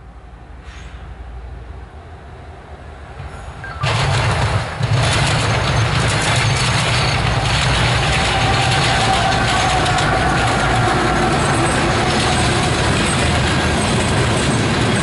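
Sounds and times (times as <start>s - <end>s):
locomotive engine rumble: 2.7s - 15.0s.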